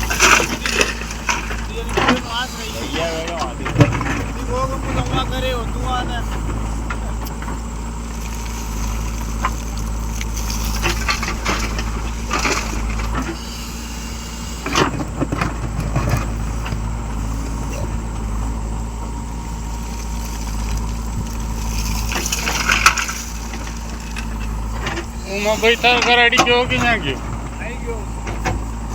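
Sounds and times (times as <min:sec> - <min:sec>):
heavy vehicle engine humming: 0:00.0 - 0:28.9.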